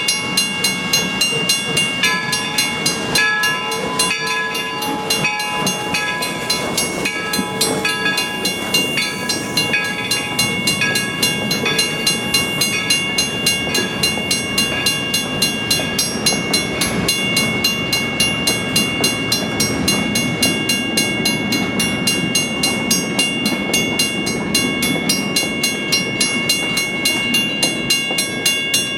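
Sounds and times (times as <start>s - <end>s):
steady high-pitched tones: 0.0s - 28.3s
steam locomotive rhythmic beat: 0.0s - 28.9s.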